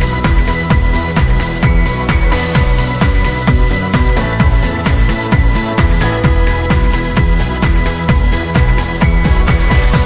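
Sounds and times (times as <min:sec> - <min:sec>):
kick drum beat: 0:00.0 - 0:10.0.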